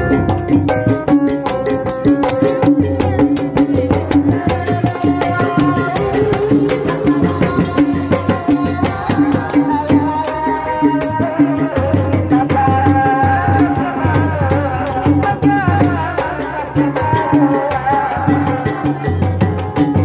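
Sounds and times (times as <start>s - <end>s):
bass drum: 0.0s - 20.0s.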